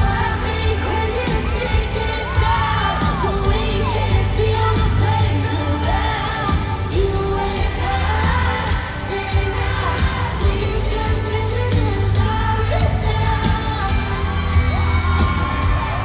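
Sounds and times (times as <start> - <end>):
crowd cheering: 0.0 - 11.0, 12.7 - 16.0
heavy bass and beat: 0.0 - 16.0
woman singing: 0.0 - 16.0.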